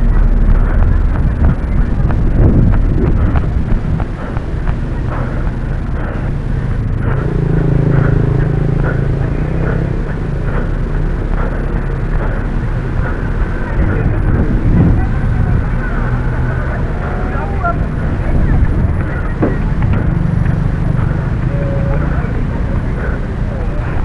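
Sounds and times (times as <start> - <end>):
steady low hum: 0.0 - 24.0
wind and handling rumble: 0.0 - 24.0.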